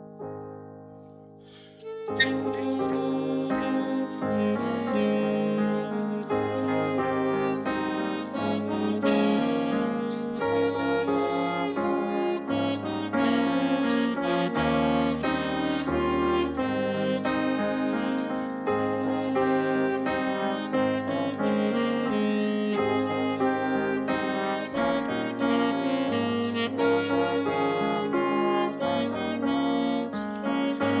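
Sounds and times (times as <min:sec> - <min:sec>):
orchestra playing: 0:01.8 - 0:31.0.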